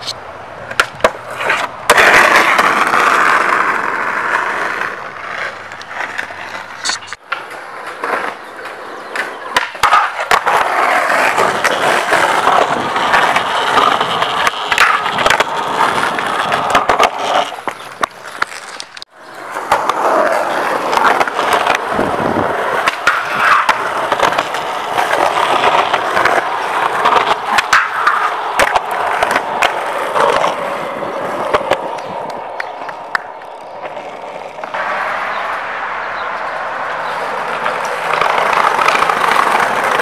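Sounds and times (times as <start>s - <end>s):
skateboard clacks: 0.0s - 40.0s
skateboard wheels rolling on concrete: 0.0s - 40.0s.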